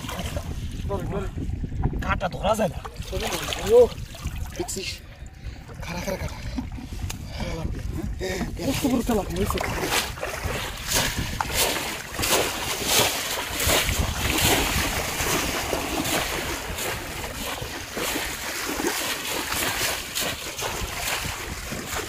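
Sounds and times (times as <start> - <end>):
splashing in shallow water: 0.0 - 1.0, 2.8 - 22.0
men wading through water: 0.0 - 1.9, 2.6 - 22.0
wind rumbling on microphone: 0.0 - 22.0.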